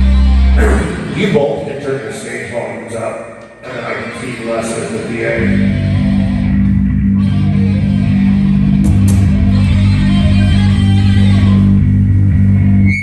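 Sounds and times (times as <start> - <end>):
bass guitar low notes: 0.0 - 2.2, 3.4 - 13.0
electric guitar low notes: 0.0 - 2.2, 3.3 - 13.0.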